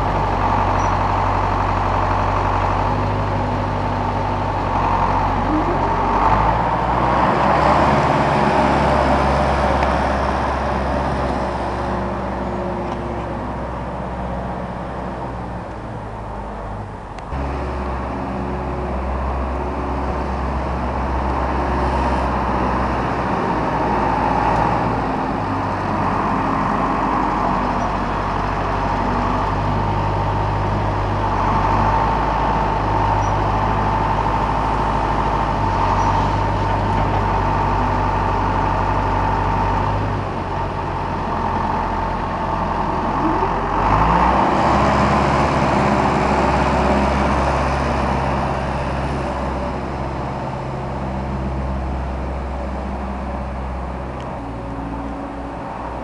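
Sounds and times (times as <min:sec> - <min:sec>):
heavy diesel engine revving: 0:00.0 - 0:56.0.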